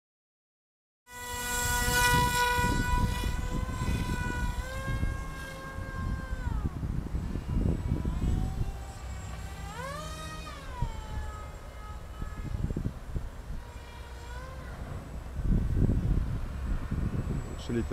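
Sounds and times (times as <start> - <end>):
electric motor and propeller whining: 1.1 - 17.9.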